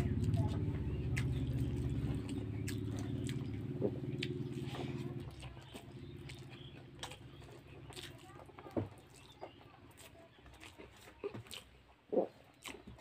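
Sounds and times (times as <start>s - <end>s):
chewing: 0.0s - 13.0s
fingers squishing rice: 0.0s - 13.0s
low mechanical hum: 0.0s - 13.0s.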